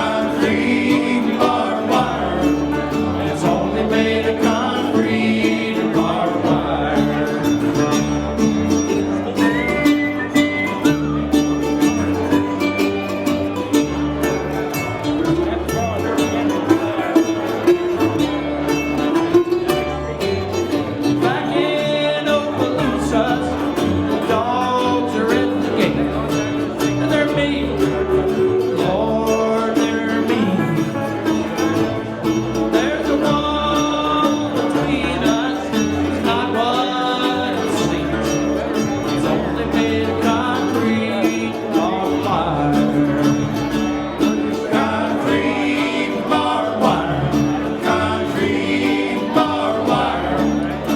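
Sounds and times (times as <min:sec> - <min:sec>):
live country band playing: 0:00.0 - 0:50.9.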